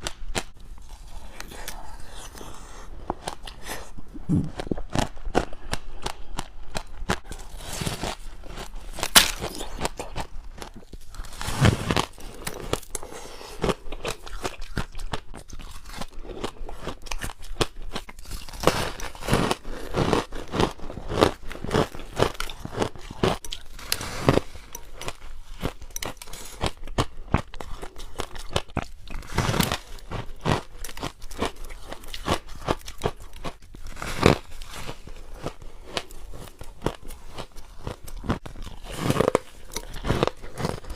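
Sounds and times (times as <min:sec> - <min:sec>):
person crunching ice: 0:00.4 - 0:40.9.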